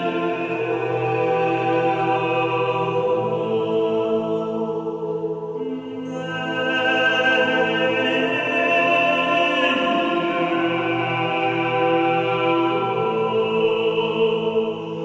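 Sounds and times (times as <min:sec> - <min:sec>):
slow music of held chords: 0:00.0 - 0:15.0.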